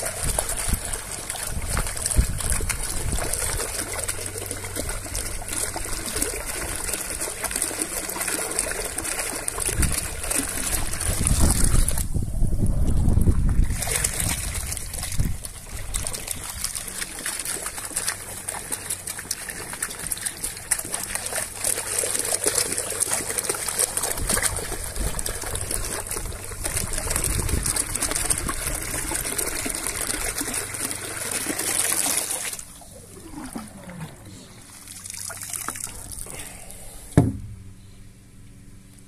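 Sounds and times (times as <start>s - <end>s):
water gushing from pipe: 0.0s - 36.7s.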